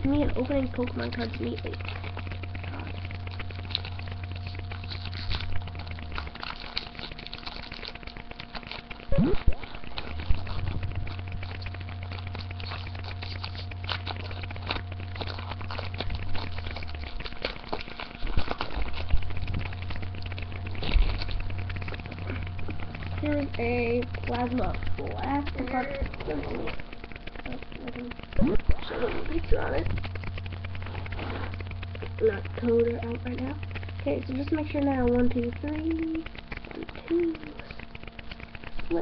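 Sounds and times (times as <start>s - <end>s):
foil wrapper crinkling: 0.0s - 39.0s
low steady hum: 0.0s - 39.0s.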